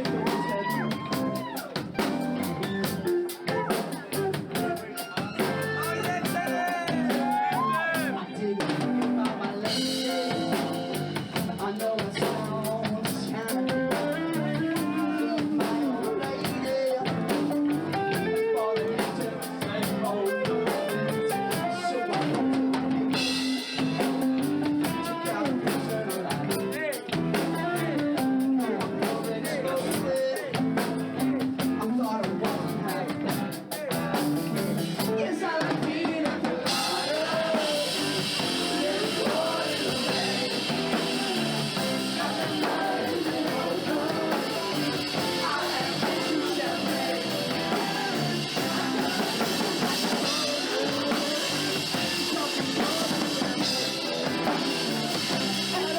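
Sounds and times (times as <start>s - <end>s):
melodic lead line: 0.0s - 25.8s, 36.6s - 55.9s
bass guitar: 0.0s - 35.8s, 36.4s - 55.9s
drum kit: 0.0s - 55.9s
electric guitar: 0.0s - 55.9s.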